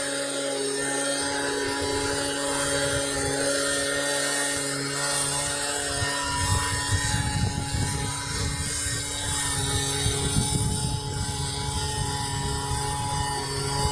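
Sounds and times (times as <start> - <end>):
leaf blower running: 0.0 - 13.9.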